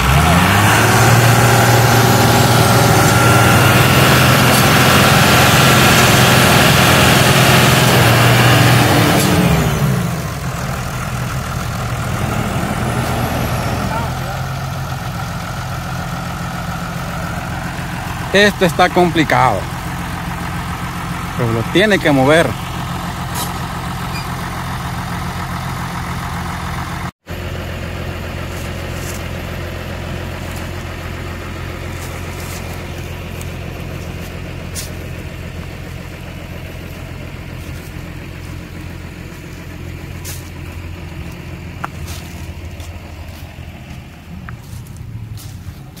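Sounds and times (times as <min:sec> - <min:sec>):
tractor diesel engine straining: 0:00.0 - 0:46.0.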